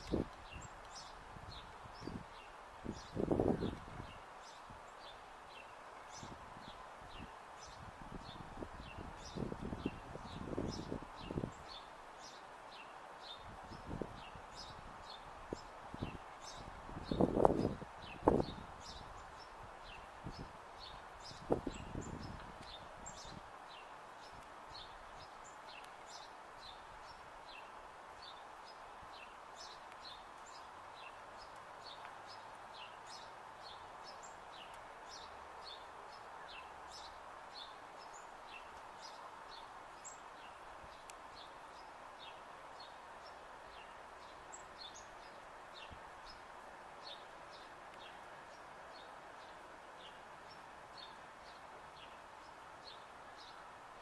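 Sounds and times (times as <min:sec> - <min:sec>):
outdoor background noise: 0:00.0 - 0:54.0
small birds chirping: 0:00.0 - 0:54.0.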